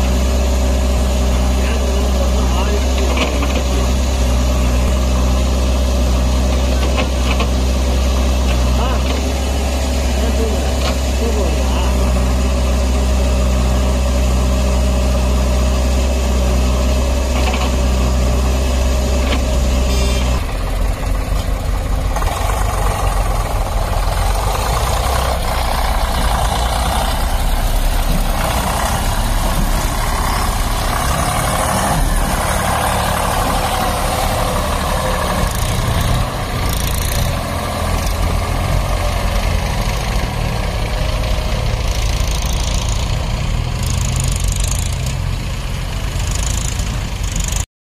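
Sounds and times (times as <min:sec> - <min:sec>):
diesel engines running: 0:00.0 - 0:47.7.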